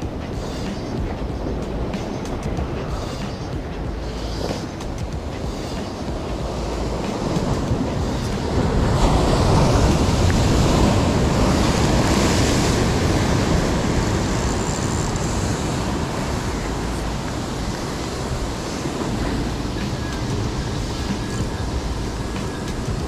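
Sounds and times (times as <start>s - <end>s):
ocean surf crashing on rocks: 0.0s - 23.0s.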